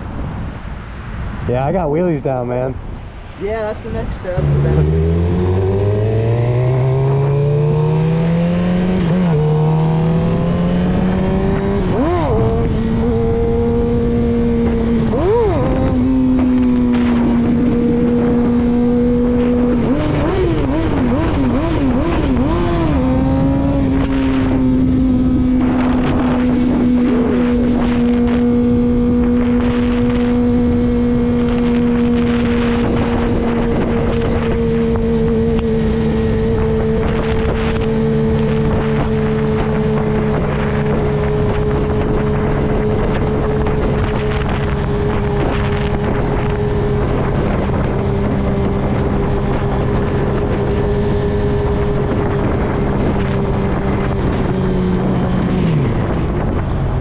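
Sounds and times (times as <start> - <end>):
wind rushing over microphone: 0.0 - 57.0
motorcycle engine cruising: 3.5 - 57.0.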